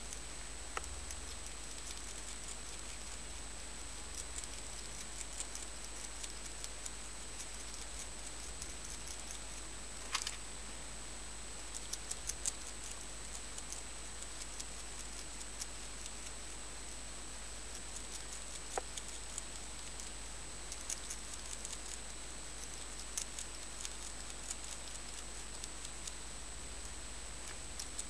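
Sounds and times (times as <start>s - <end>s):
hedgehog chewing with crisp clicks: 0.0s - 10.4s, 11.6s - 16.5s, 17.6s - 28.0s.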